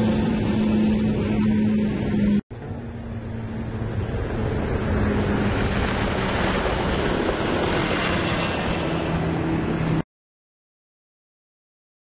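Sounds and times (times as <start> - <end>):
rush of hull and spray: 0.0 - 10.0
speedboat engine passing by: 0.0 - 10.0.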